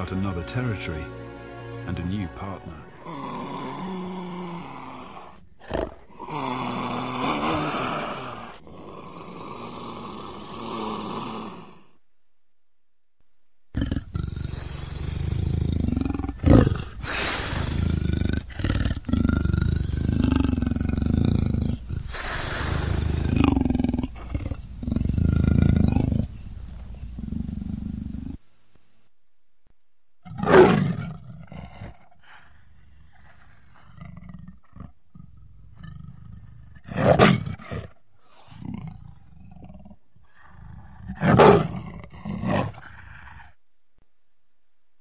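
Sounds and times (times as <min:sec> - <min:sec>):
big cat growling: 0:02.7 - 0:12.0, 0:13.7 - 0:28.4, 0:30.2 - 0:43.6
big cat roaring: 0:02.8 - 0:12.0, 0:13.8 - 0:28.4, 0:30.2 - 0:43.6.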